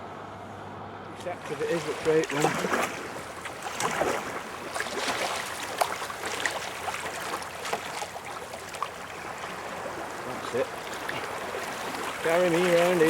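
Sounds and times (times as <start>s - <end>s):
paddle blades splashing: 1.2s - 13.0s
water splashing and trickling: 1.2s - 13.0s.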